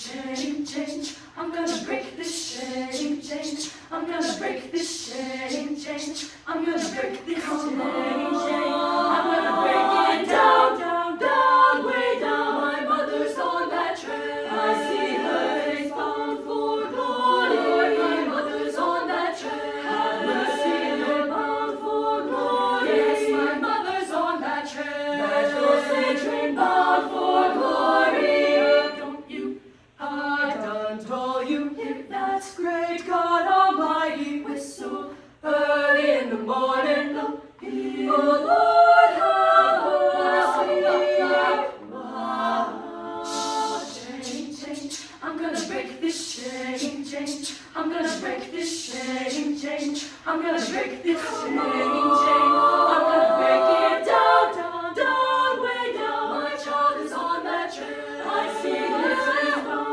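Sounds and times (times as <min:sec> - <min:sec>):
vocal ensemble singing a cappella: 0:00.0 - 0:59.9.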